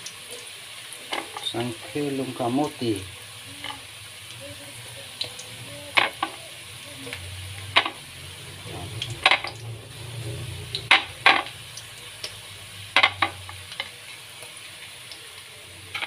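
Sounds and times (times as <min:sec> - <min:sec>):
fries sizzling in oil: 0:00.0 - 0:16.0.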